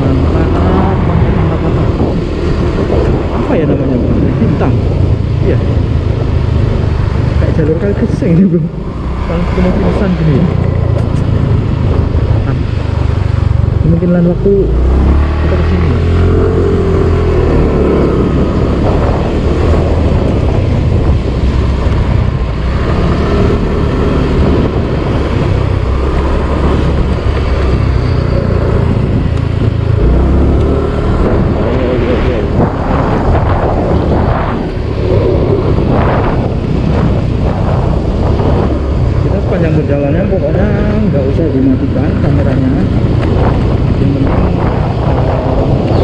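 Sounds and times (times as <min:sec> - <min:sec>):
wind on microphone: 0:00.0 - 0:46.0.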